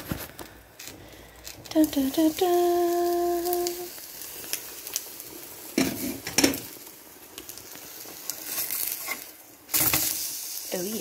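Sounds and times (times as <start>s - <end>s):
patty sizzling in frying pan: 0.0s - 11.0s.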